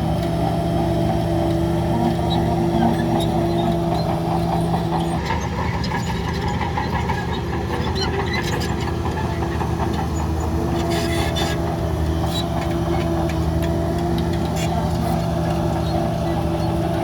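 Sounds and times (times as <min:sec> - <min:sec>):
heavy diesel machine running: 0:00.0 - 0:17.0.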